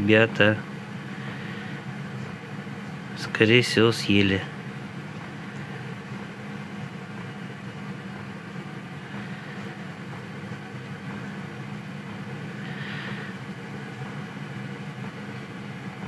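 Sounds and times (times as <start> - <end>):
heater fan hum: 0.0 - 16.0.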